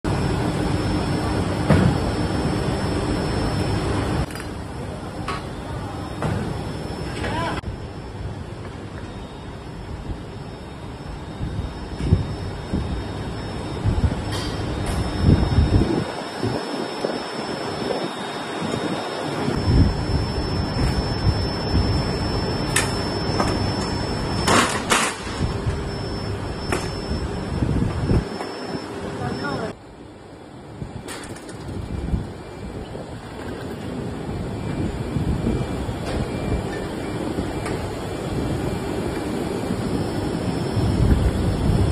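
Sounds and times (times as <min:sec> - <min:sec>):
low factory rumble: 0:00.0 - 0:41.9
machinery humming: 0:00.0 - 0:41.9.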